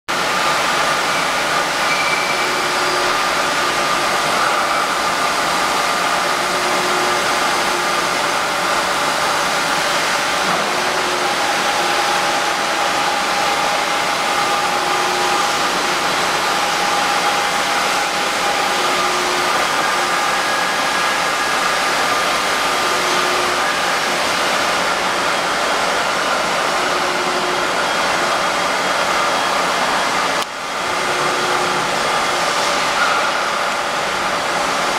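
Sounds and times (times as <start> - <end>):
milling machine whirring: 0.1 - 34.9.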